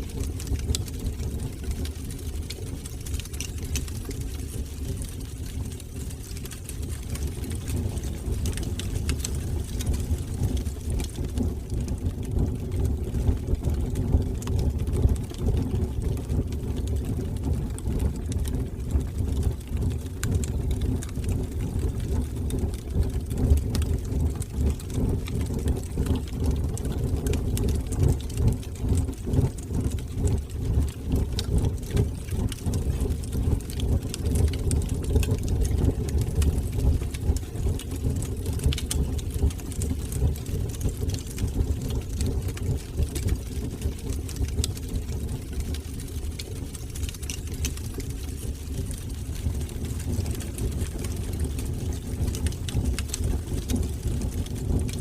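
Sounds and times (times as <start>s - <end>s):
fire crackles: 0.0s - 55.0s
fire rumbling in fireplace: 0.0s - 55.0s.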